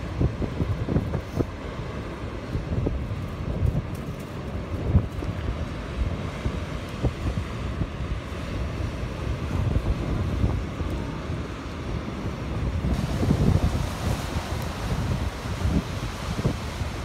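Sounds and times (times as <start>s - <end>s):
big waves breaking on shore: 0.0s - 17.0s
wind buffeting microphone: 0.0s - 17.0s.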